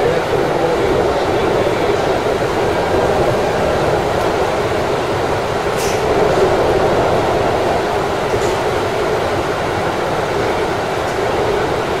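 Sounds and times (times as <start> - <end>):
train wheel and rail noise: 0.0 - 12.0.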